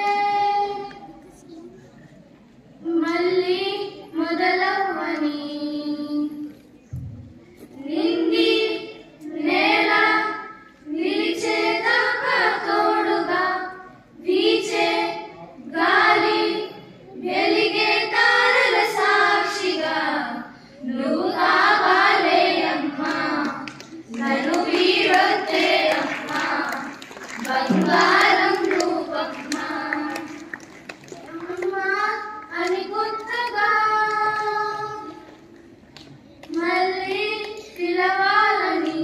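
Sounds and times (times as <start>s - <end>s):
girls singing together: 0.0s - 1.4s, 2.8s - 6.5s, 7.7s - 35.4s, 36.5s - 39.0s.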